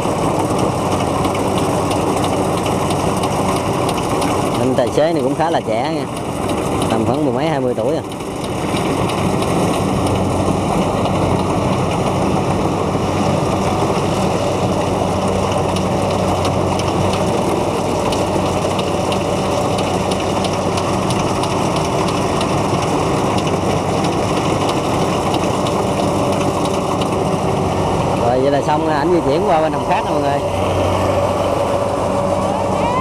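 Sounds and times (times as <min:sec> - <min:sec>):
diesel engine hum: 0:00.0 - 0:33.0.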